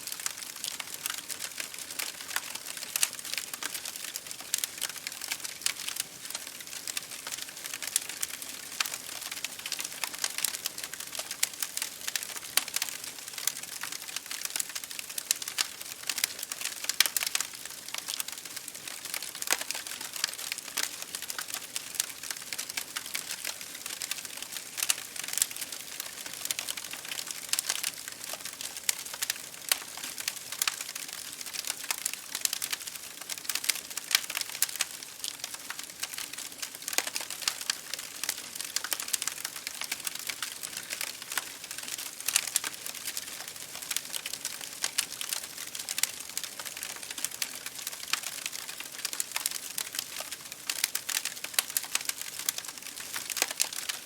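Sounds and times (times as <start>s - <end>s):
rain pattering on a window: 0.0s - 54.0s
wood fire crackling: 0.0s - 54.0s.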